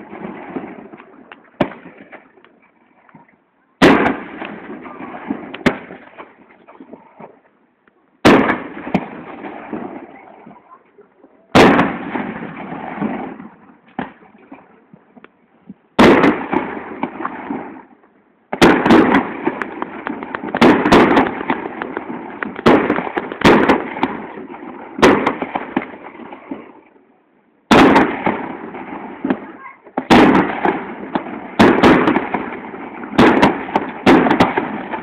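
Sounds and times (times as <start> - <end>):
fireworks bursting with bangs: 0.0 - 7.4, 8.2 - 10.8, 11.4 - 27.0, 27.6 - 35.0.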